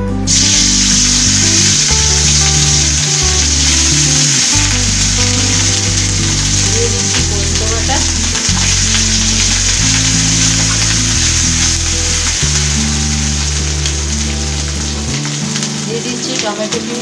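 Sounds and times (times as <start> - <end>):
background music: 0.0 - 17.0
onion paste sizzling in oil: 0.2 - 17.0.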